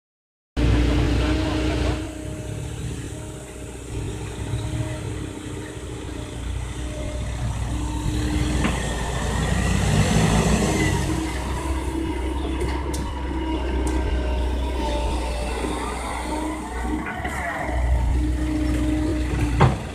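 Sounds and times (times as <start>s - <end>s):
excavator diesel engine running: 0.6s - 19.9s.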